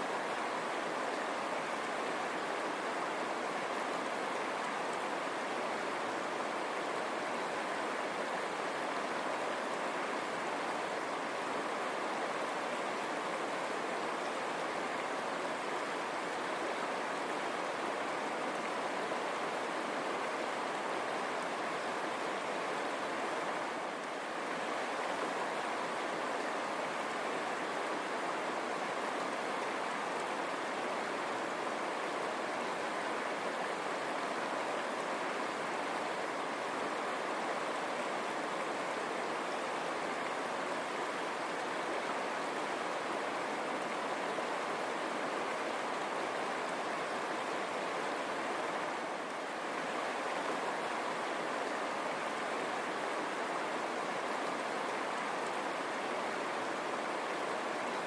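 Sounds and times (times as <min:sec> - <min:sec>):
river water running over stones: 0:00.0 - 0:58.0.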